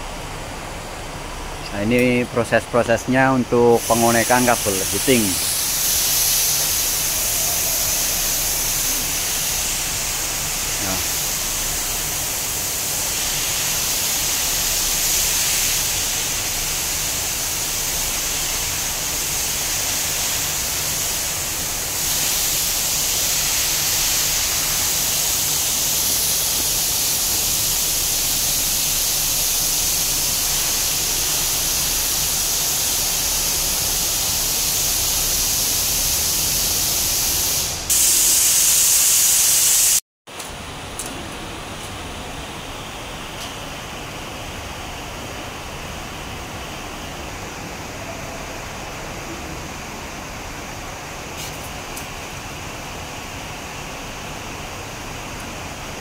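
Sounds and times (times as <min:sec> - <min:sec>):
loud hiss: 0:01.0 - 0:40.0, 0:42.4 - 0:56.0.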